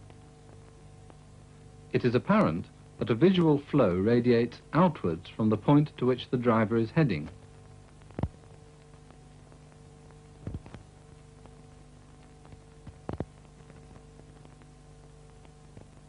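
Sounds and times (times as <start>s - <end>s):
film soundtrack hum: 0.0s - 16.0s.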